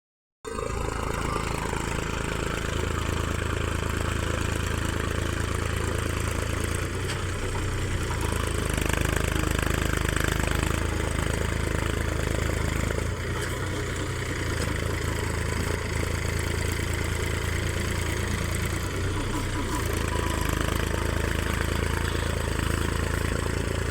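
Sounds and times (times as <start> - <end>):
tractor diesel engine running: 0.5 - 23.9.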